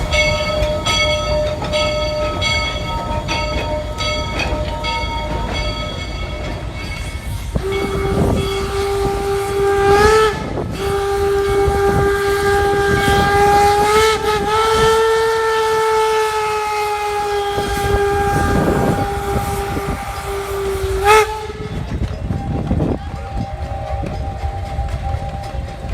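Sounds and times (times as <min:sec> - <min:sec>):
steam whistle blowing: 0:00.0 - 0:25.9.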